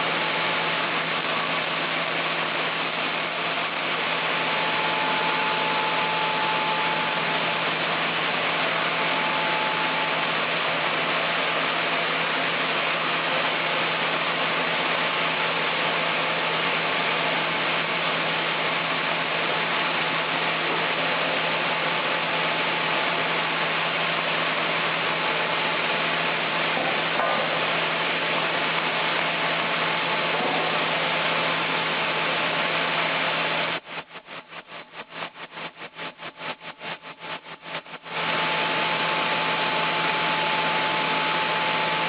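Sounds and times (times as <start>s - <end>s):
constant hum: 0.0s - 42.0s
sawmill machinery running: 0.0s - 42.0s.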